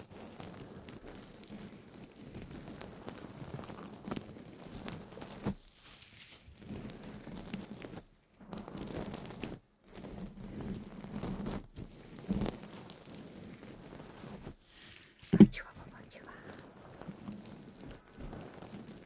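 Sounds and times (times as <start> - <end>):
crinkling and crunching: 0.0 - 19.0.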